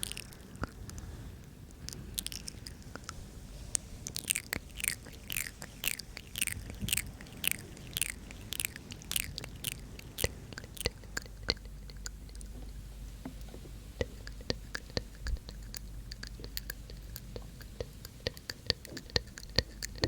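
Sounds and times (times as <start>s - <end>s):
wet mouth clicks and smacks: 0.0s - 1.1s, 1.7s - 3.2s, 4.1s - 12.8s, 13.4s - 20.0s.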